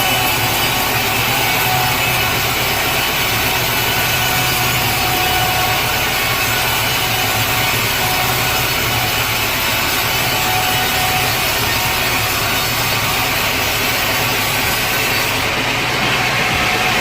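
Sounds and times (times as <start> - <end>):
saw cutting through log: 0.0 - 17.0
saw motor humming: 0.0 - 17.0.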